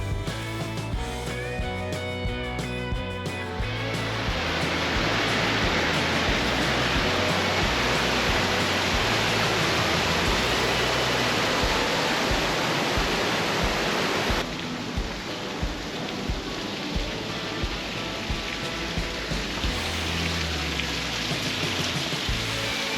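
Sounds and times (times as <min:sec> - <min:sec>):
background music bass line: 0:00.0 - 0:13.4, 0:14.2 - 0:22.9
creek water rushing: 0:00.0 - 0:22.9.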